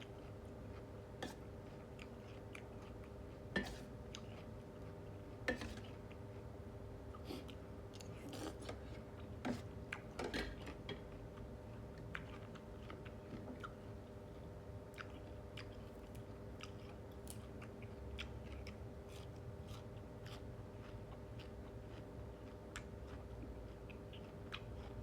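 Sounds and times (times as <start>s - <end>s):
person chewing food: 0.0s - 6.5s, 7.1s - 25.0s.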